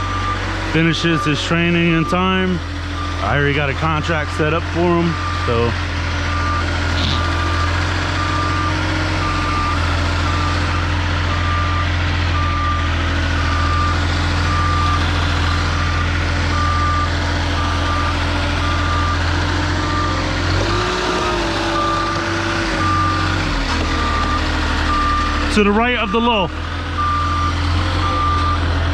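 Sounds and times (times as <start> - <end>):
reverse alarm beeping: 0.0 - 15.0, 16.5 - 28.7
forklift engine running: 0.0 - 28.9.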